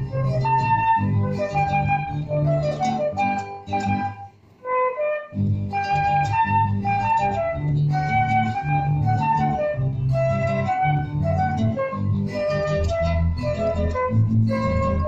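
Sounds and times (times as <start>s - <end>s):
flute-like melody: 0.0s - 15.0s.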